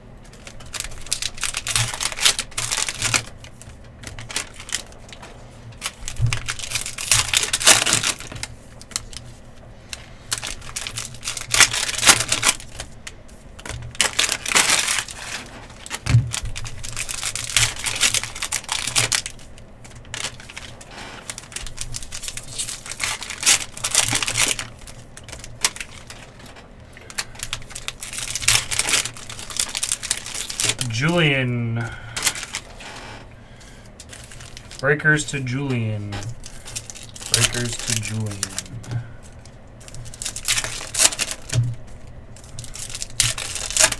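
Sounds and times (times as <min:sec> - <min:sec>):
card wrappers tearing and crinkling: 0:00.3 - 0:43.9.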